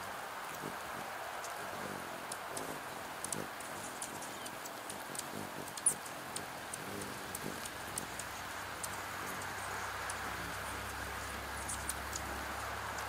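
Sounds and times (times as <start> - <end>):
raindrops ticking on plastic: 0.0 - 13.0
steady rain: 0.0 - 13.0.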